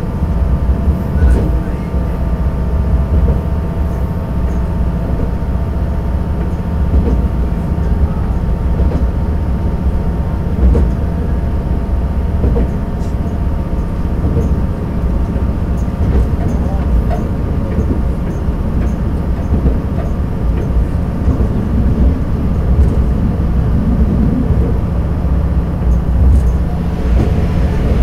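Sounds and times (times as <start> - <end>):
railcar engine and wheel rumble: 0.0 - 28.0.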